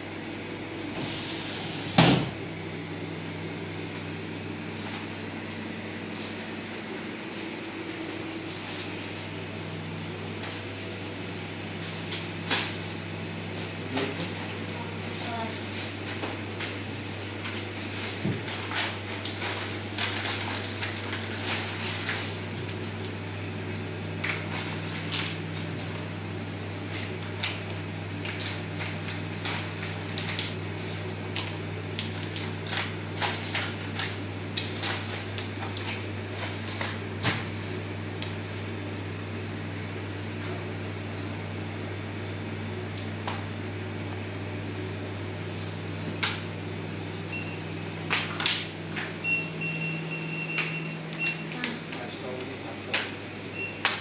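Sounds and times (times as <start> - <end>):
steady low hum: 0.0 - 53.8.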